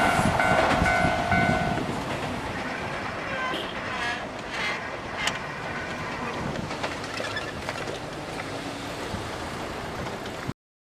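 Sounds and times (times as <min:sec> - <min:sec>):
electric train rolling: 0:00.0 - 0:10.5
rail clicks: 0:00.0 - 0:10.5.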